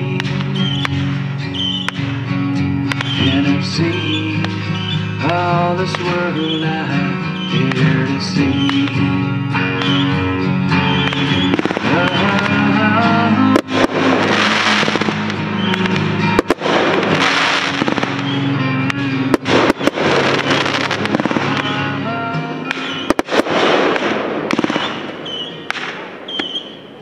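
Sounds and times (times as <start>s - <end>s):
music with long held notes: 0.0s - 26.2s
firework crackling: 0.0s - 27.0s
firework shells bursting: 2.8s - 26.9s.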